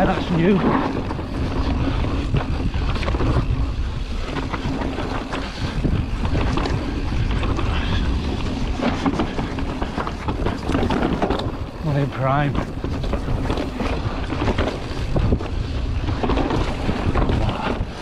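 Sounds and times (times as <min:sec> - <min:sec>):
bike knocks and rattles: 0:00.0 - 0:18.0
tyres rumbling on dirt: 0:00.0 - 0:18.0
wind buffeting microphone: 0:00.0 - 0:18.0.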